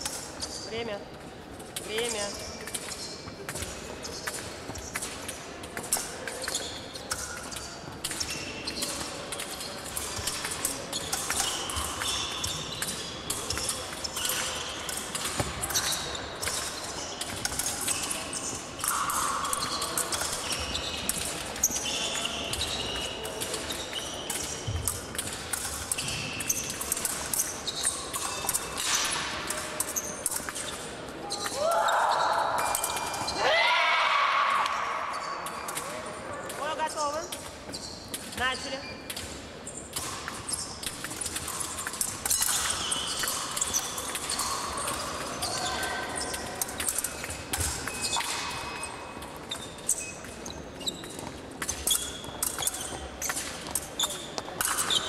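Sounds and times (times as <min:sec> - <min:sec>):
shoe squeaks on hard floor: 0:01.9 - 0:05.4, 0:06.2 - 0:25.2, 0:25.9 - 0:29.2, 0:29.8 - 0:33.4, 0:35.0 - 0:39.1, 0:42.0 - 0:55.0.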